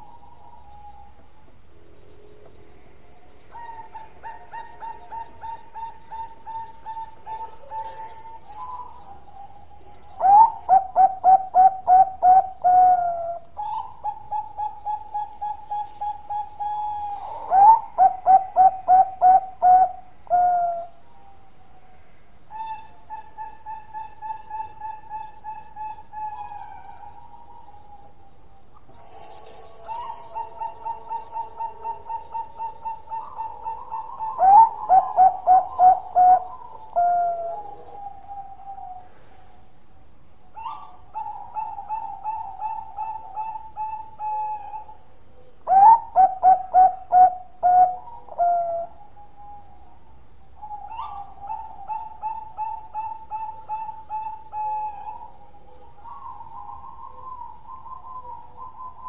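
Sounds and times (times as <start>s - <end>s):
dove cooing: 0.0s - 1.3s, 2.1s - 21.5s, 22.5s - 39.8s, 40.4s - 59.0s.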